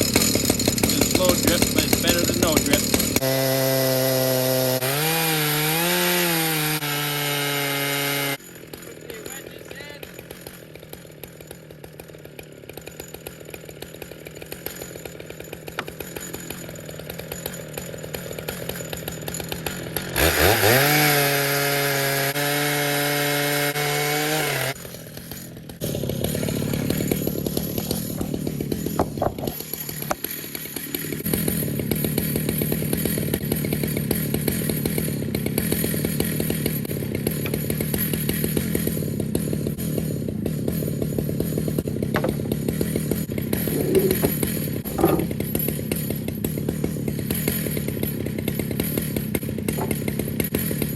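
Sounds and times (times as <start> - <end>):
chainsaw cutting through log: 0.0 - 50.9
chainsaw idling and revving: 0.0 - 50.9.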